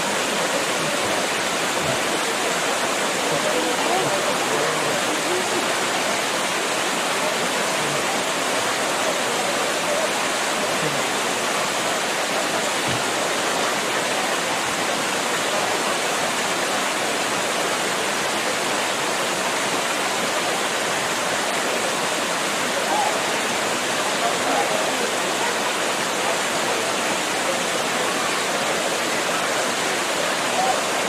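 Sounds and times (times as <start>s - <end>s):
waterfall pouring onto rocks: 0.0s - 31.0s.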